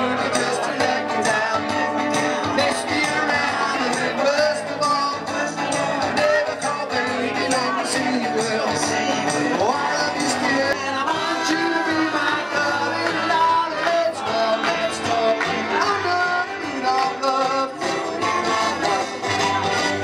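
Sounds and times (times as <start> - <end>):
electric guitar: 0.0 - 20.0.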